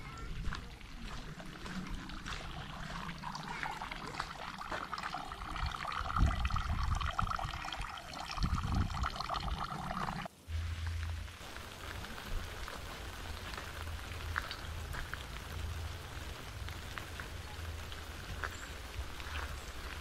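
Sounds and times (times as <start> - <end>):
water pouring and splashing: 0.0 - 20.0.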